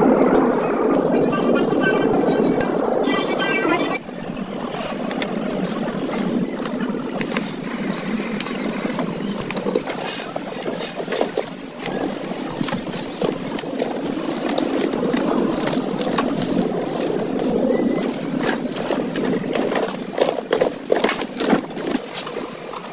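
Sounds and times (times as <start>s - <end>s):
outdoor background noise: 0.0s - 22.9s.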